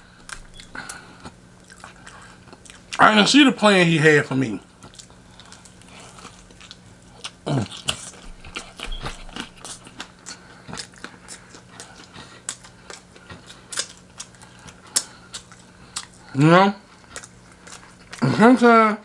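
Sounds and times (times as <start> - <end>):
chewing crunchy food: 0.0 - 3.4, 4.4 - 18.6.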